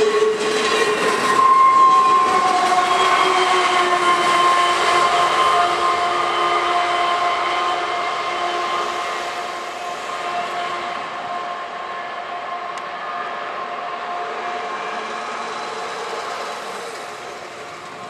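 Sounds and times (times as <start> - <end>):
freight train passing: 0.0 - 18.0
multi-pitched locomotive whine: 0.0 - 18.0.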